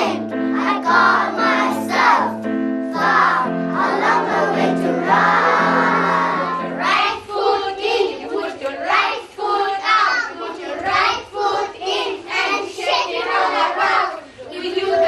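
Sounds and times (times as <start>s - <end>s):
children singing: 0.0s - 15.0s.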